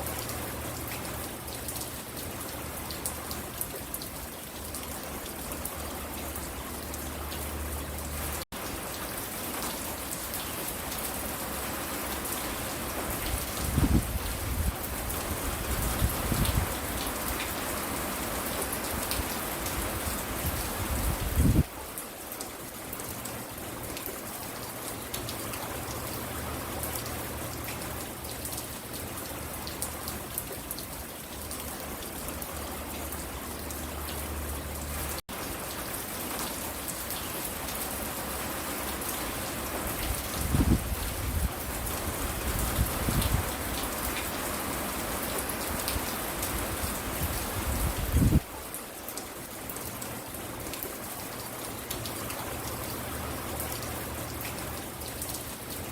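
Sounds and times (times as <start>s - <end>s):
rain pattering on hard surfaces: 0.0s - 55.9s.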